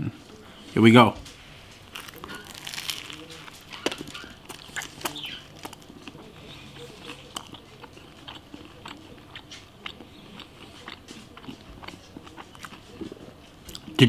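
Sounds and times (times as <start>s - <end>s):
chewing sandwich: 1.3s - 14.0s.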